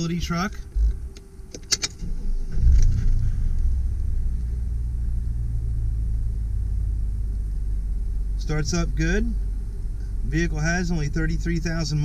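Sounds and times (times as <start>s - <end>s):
truck engine starting and idling: 0.0s - 12.0s.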